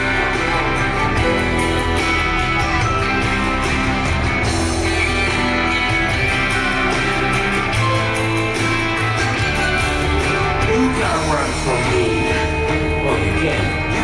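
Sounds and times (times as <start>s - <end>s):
loud soundtrack music: 0.0s - 14.0s.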